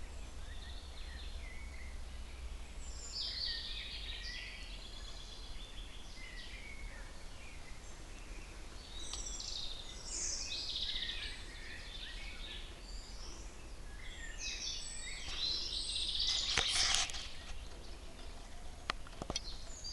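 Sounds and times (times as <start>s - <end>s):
steady low rumble: 0.0s - 16.2s
songbirds chirping and trilling: 0.0s - 19.9s.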